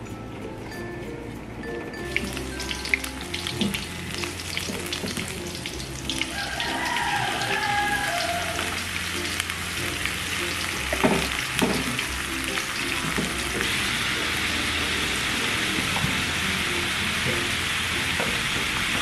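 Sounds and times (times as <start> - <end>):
shrimp and onion sizzling in oil: 2.0 - 19.0.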